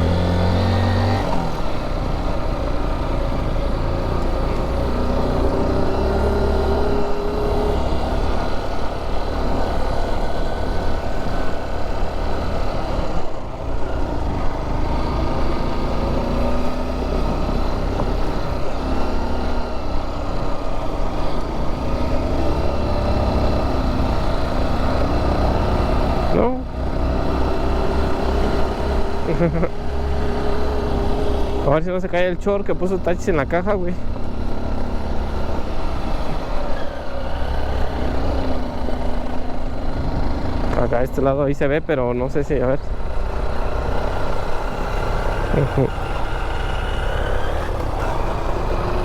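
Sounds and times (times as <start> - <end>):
dirt bike engine revving: 0.0 - 41.4, 42.8 - 49.0.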